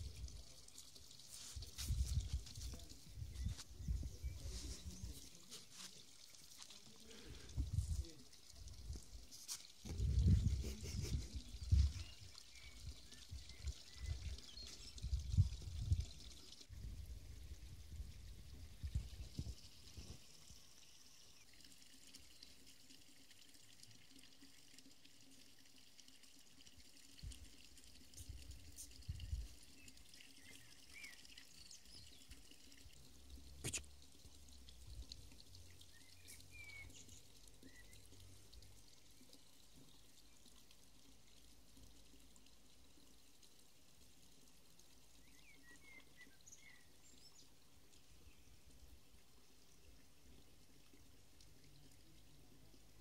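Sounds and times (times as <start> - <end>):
faint outdoor background hiss: 0.0 - 53.0.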